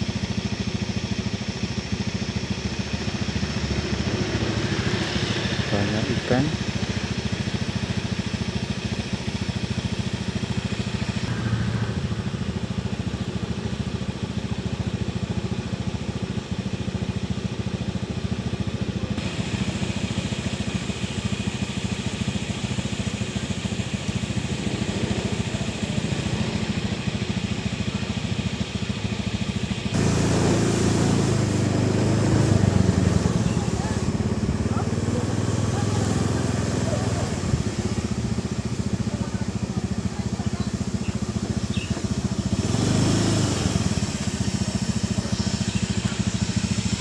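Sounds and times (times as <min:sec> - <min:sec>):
small engine running: 0:00.0 - 0:47.0.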